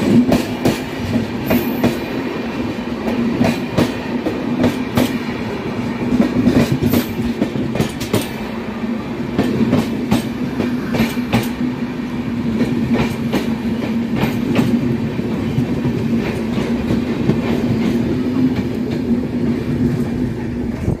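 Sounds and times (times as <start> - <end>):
low train hum: 0.0 - 21.0
train wheels clicking on rail joints: 0.0 - 21.0.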